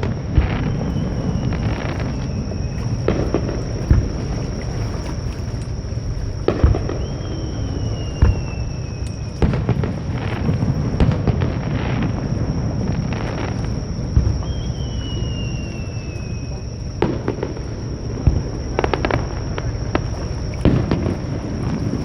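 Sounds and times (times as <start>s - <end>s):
falling firework whistle: 0.0s - 5.6s, 6.3s - 22.0s
fireworks booming: 0.0s - 22.0s.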